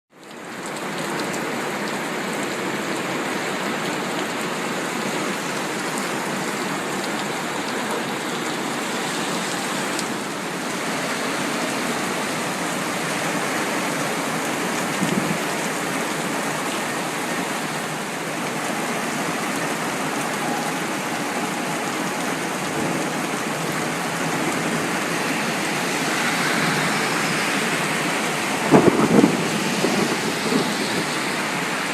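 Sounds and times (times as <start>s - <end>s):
heavy rain falling: 0.1s - 31.9s.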